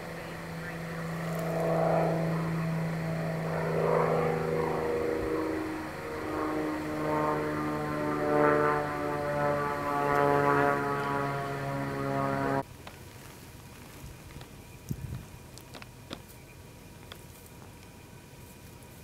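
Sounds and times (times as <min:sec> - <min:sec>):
propeller airplane engine drone: 0:00.0 - 0:19.0.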